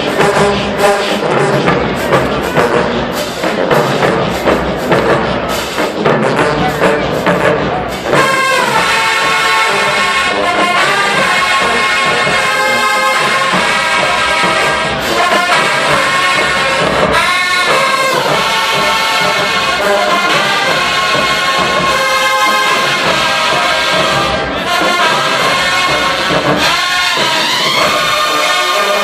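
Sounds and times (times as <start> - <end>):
brass section chords: 0.0 - 29.0
drums: 0.0 - 29.0
marching band playing: 0.0 - 29.0.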